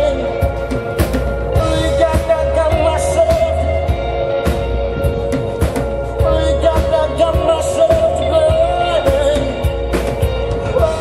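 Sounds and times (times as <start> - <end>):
live rock band playing: 0.0 - 11.0
man singing: 0.0 - 11.0.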